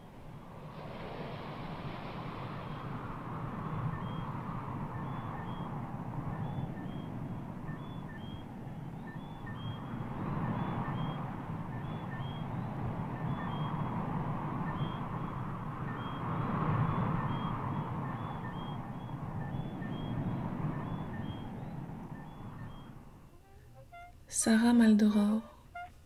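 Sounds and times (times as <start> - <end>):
wind buffeting microphone: 0.0 - 23.8.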